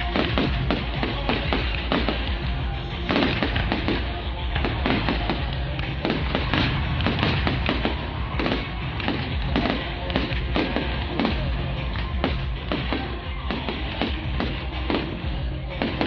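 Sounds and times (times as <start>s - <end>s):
fireworks bangs and crackles: 0.0s - 16.0s
music over loudspeakers: 0.0s - 16.0s.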